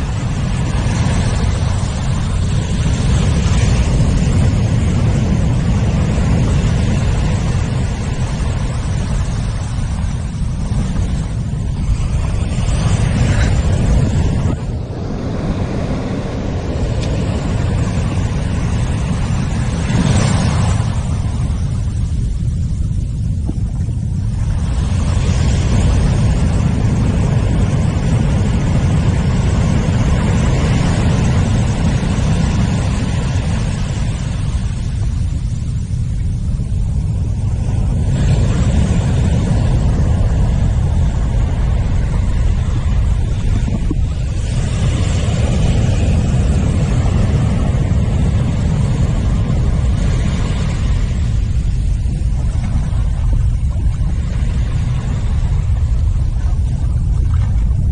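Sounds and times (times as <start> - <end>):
surf washing on beach: 0.0 - 57.9
wind buffeting microphone: 0.0 - 57.9.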